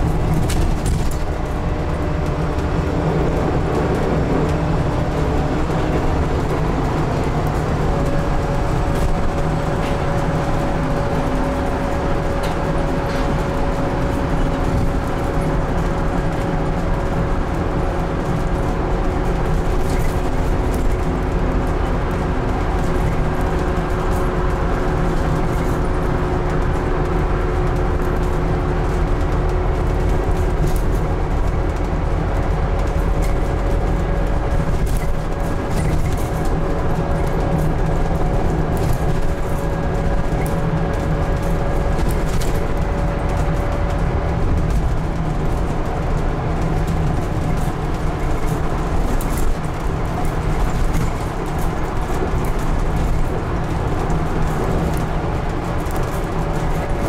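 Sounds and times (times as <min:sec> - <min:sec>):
bus engine rumble: 0:00.0 - 0:57.0.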